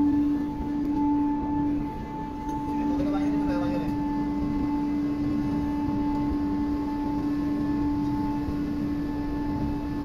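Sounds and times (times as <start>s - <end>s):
foundry machinery drone: 0.0s - 10.0s.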